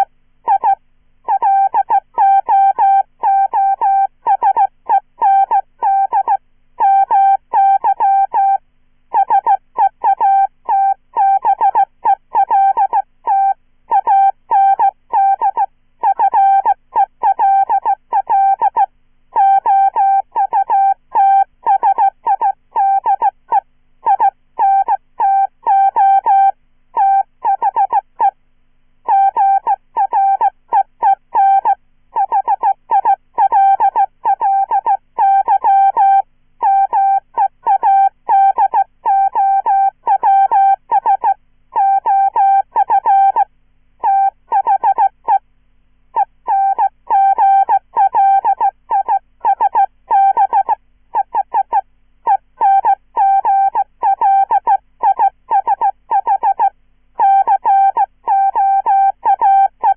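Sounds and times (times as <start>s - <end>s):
morse code beeps: 0.0s - 23.4s, 24.0s - 28.3s, 29.1s - 45.4s, 46.2s - 59.9s.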